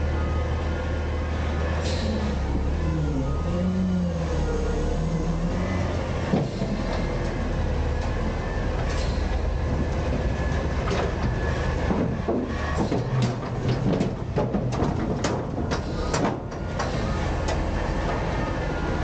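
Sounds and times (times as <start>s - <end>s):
garbage truck engine drone: 0.0s - 19.0s.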